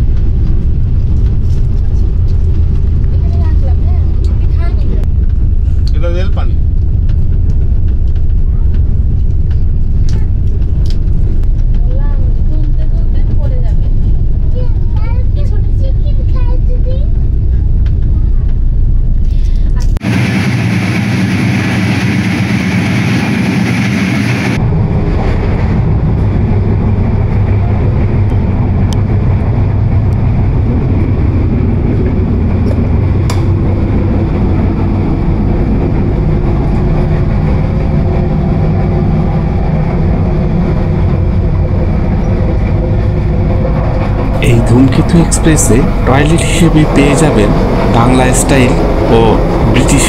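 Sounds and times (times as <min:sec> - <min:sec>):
train wheel and rail rumble: 0:00.0 - 0:50.0.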